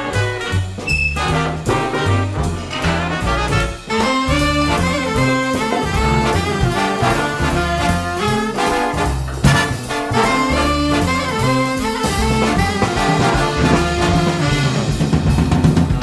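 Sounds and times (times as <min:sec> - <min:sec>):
jazz tune on brass instruments: 0:00.0 - 0:16.0.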